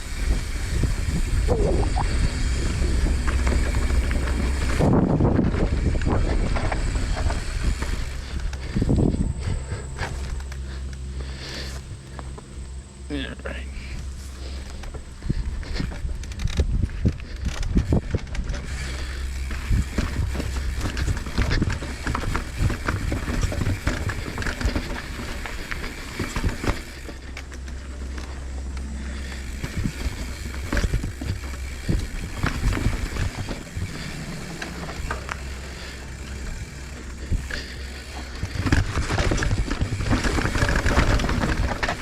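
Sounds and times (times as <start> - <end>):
wind rumble on microphone: 0.0 - 10.4, 14.0 - 27.0, 28.8 - 42.0
mountain bike clattering over rocks: 0.3 - 11.1, 14.0 - 42.0.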